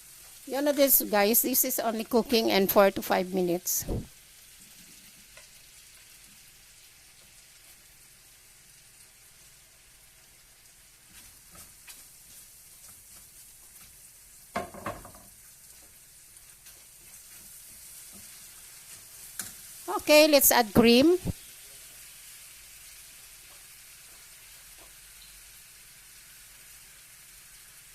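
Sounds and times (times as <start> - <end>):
vegetables sizzling in a pan: 0.0 - 27.9.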